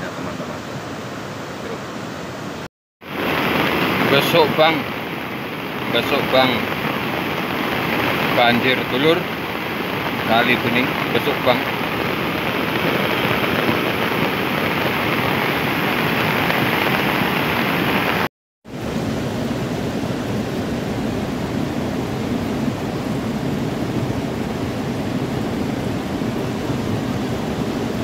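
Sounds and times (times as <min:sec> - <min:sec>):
roar of churning floodwater: 0:00.0 - 0:28.0.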